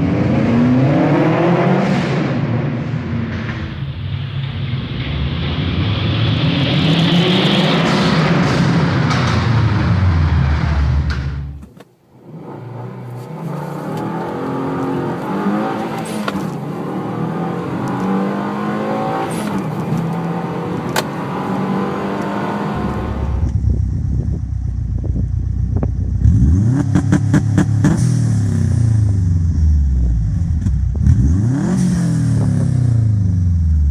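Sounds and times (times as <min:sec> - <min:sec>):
car engine revving: 0:00.0 - 0:11.6, 0:12.2 - 0:33.9.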